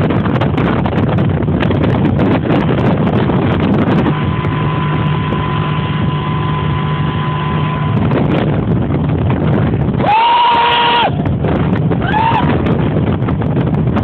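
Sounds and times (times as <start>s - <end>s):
speedboat engine humming: 0.0s - 14.0s
wind noise on microphone: 0.0s - 14.0s.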